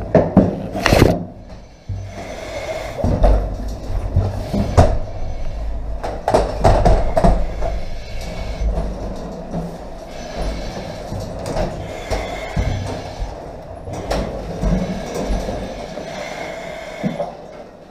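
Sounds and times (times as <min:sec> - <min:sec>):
steady low rumble: 0:00.7 - 0:16.0.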